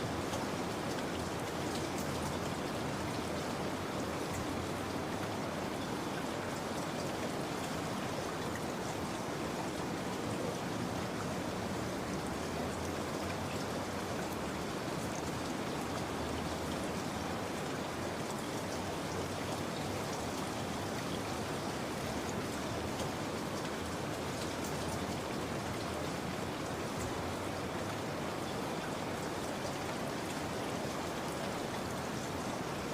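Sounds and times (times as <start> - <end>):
steady rain patter: 0.0 - 32.9.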